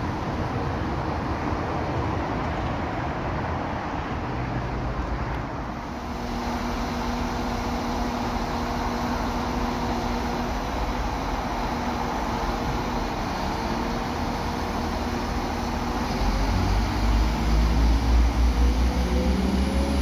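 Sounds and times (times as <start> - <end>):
steady engine hum: 0.0 - 20.0
train mechanical rumble: 0.0 - 20.0.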